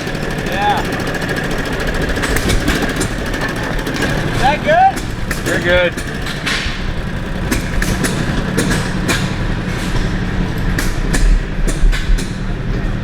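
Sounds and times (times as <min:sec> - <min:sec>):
gas engines running with pops: 0:00.0 - 0:13.0.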